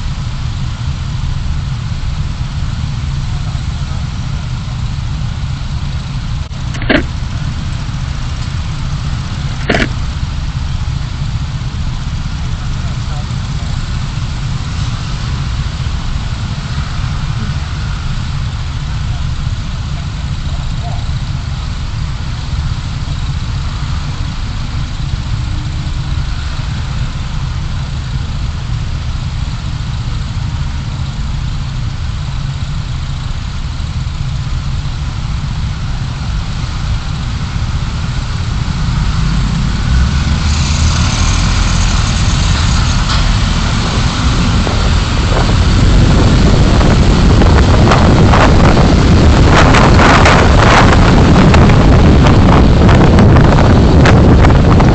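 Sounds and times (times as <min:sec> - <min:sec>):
car road and engine rumble: 0:00.0 - 0:54.9
rushing and buffeting: 0:00.0 - 0:54.9.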